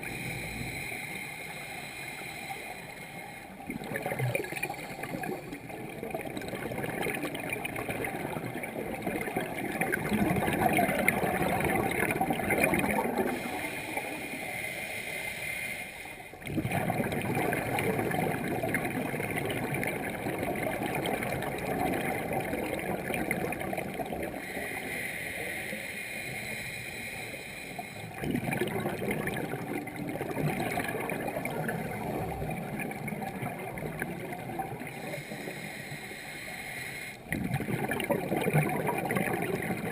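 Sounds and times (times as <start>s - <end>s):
water gurgling: 0.0s - 15.0s, 16.3s - 25.2s, 27.7s - 35.8s, 37.2s - 39.9s.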